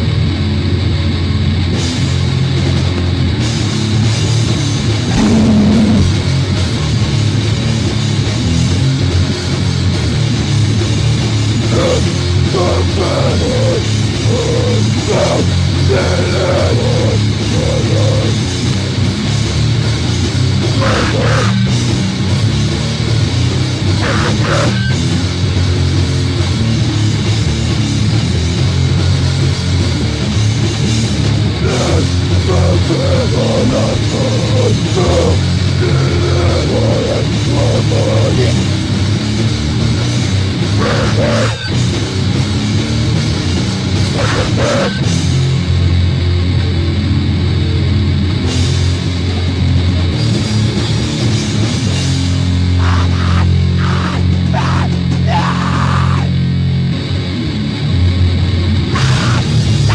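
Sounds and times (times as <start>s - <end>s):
distorted heavy metal music: 0.0s - 59.9s.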